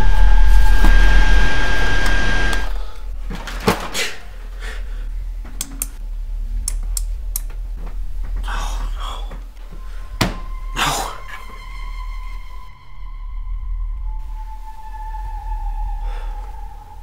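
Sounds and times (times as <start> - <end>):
high whining tones: 0.0 - 17.0
low electronic rumble: 0.0 - 17.0.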